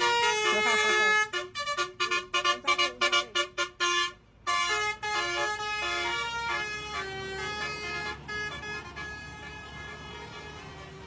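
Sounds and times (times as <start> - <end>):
musical air horn on a bus: 0.0 - 11.0.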